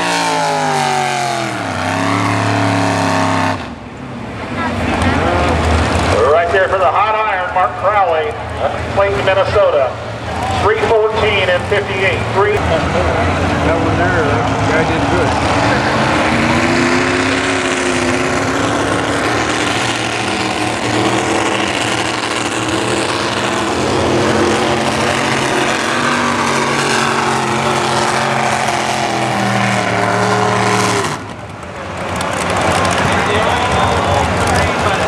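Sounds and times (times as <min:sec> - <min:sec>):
truck engine at high revs: 0:00.0 - 0:35.0.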